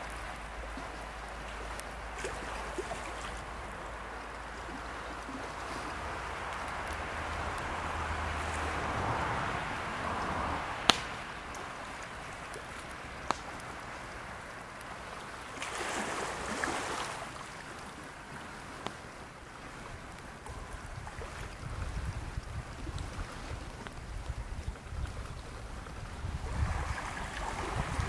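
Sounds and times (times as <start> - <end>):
lake water washing on shore: 0.0 - 28.0
wind: 0.0 - 28.0.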